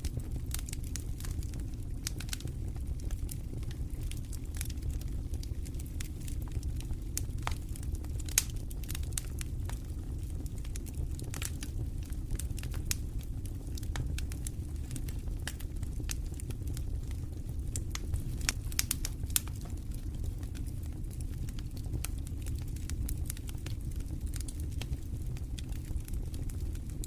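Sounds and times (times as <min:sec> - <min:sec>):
campfire crackling and popping: 0:00.0 - 0:27.0
low rumble of wind: 0:00.0 - 0:27.0.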